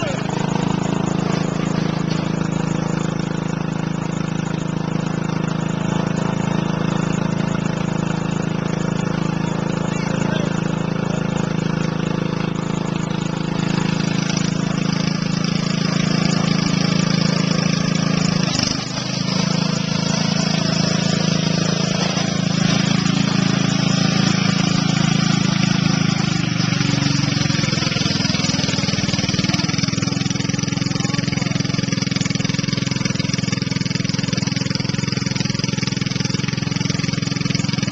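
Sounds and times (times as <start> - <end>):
lawn mower engine running hard: 0.0 - 37.9.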